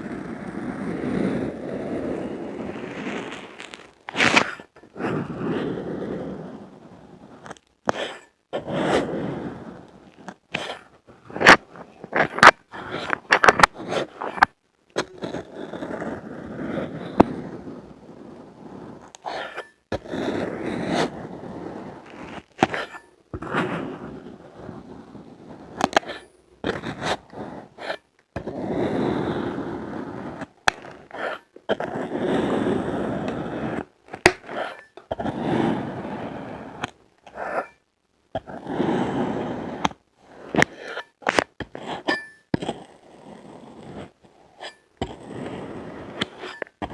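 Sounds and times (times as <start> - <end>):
sand crunching and scraping: 0.0 - 37.8, 38.4 - 46.9.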